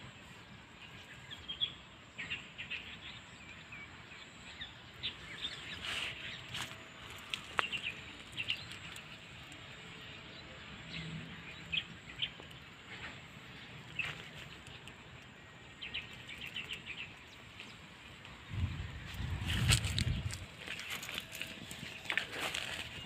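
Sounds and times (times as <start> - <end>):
faint outdoor background noise: 0.0 - 23.0
small birds chirping: 0.0 - 23.0.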